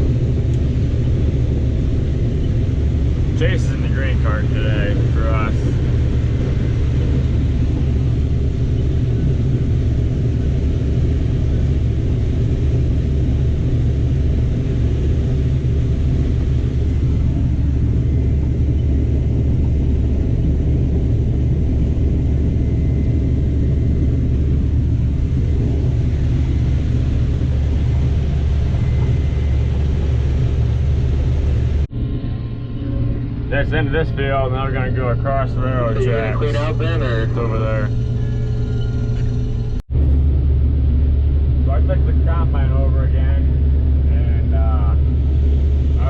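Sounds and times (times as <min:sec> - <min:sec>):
combine harvester engine drone: 0:00.0 - 0:46.0
humming tones: 0:00.0 - 0:46.0.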